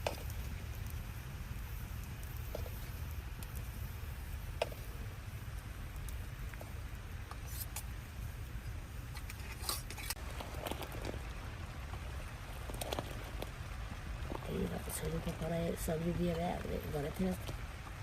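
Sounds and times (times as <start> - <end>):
rain drops pattering: 0.0 - 18.0
steady low rumble: 0.0 - 18.0.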